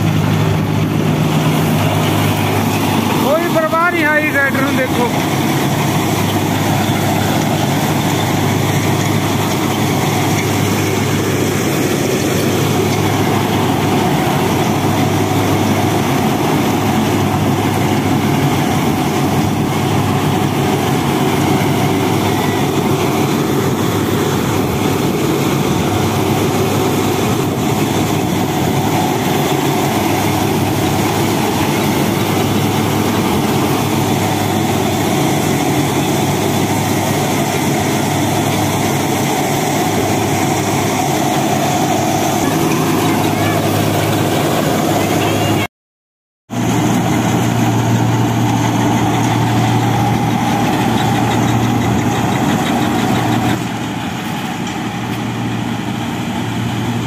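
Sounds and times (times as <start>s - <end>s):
reaper drum and blower whirring: 0.0s - 45.7s, 46.5s - 57.0s
tractor diesel engine droning: 0.0s - 45.7s, 46.5s - 57.0s.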